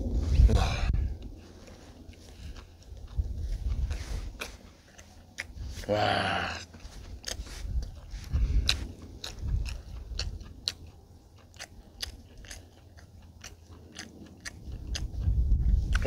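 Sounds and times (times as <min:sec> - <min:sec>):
chewing crispy chicken: 0:00.1 - 0:16.0.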